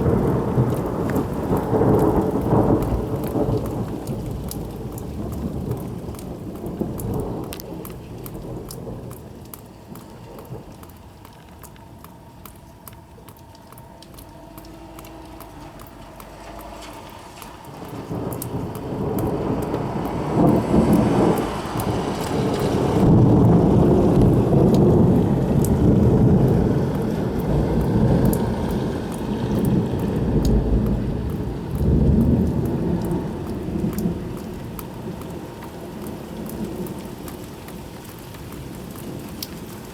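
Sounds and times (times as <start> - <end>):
thunder rolling: 0.0 - 9.5, 13.4 - 37.7
sharp raindrops striking: 0.0 - 39.9
steady rain: 0.0 - 39.9.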